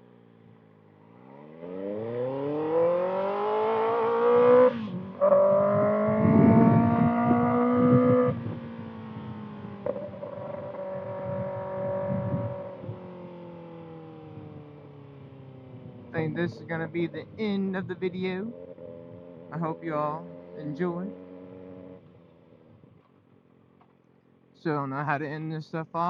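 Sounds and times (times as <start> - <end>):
motorcycle accelerating: 0.0 - 24.5.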